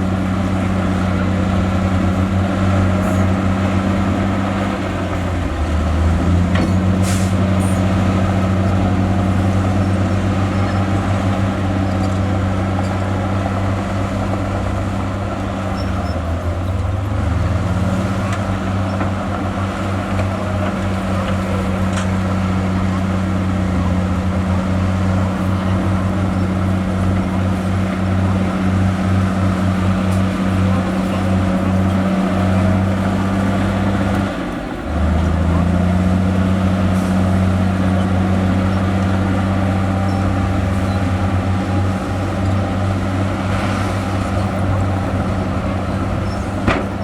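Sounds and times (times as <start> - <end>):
heavy diesel engine under load: 0.0 - 47.0.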